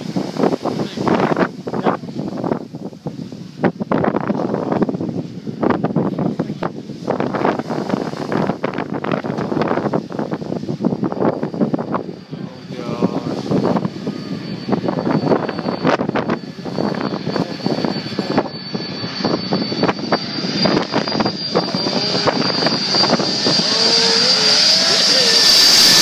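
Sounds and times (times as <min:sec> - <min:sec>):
jet engines whining: 0:00.0 - 0:26.0
wind buffeting microphone: 0:00.0 - 0:26.0.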